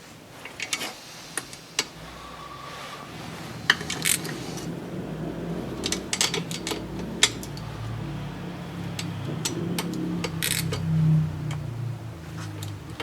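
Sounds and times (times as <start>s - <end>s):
steady low hum: 1.0s - 13.0s.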